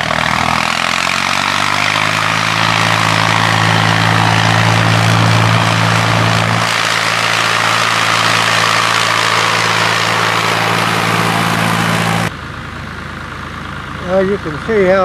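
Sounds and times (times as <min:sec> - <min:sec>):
tractor engine under load: 0:00.0 - 0:15.0.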